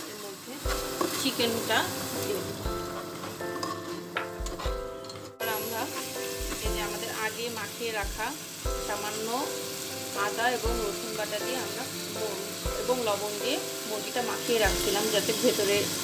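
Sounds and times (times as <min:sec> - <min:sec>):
spices sizzling in hot oil: 0:00.0 - 0:16.0
background music: 0:00.2 - 0:16.0.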